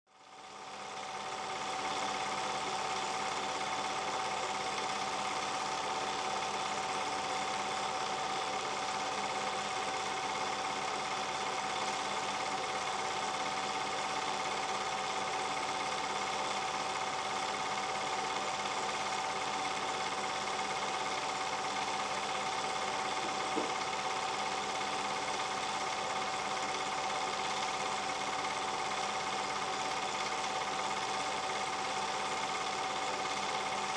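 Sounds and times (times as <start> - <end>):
film projector whirring: 0.1 - 33.9.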